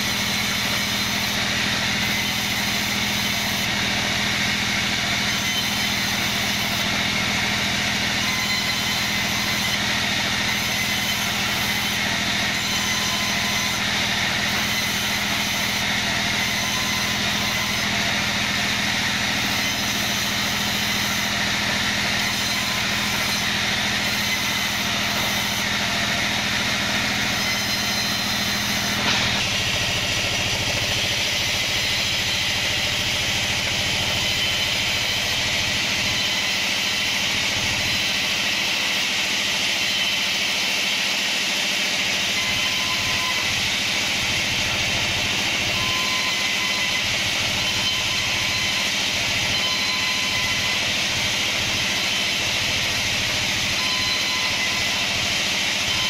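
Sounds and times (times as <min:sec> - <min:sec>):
saw blade ripping wood: 0:00.0 - 0:49.3
band saw machine hum: 0:00.0 - 0:56.0.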